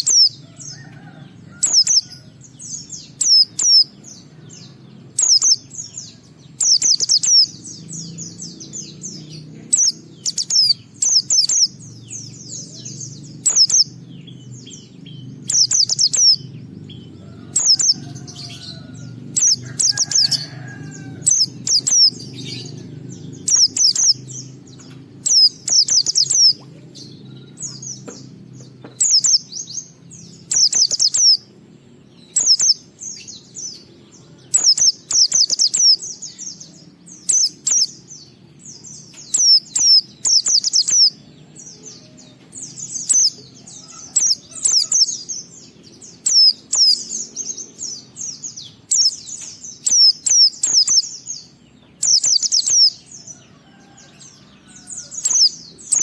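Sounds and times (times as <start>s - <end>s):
steady low hum: 0.0s - 53.3s
bird chirping and twittering: 0.0s - 56.0s.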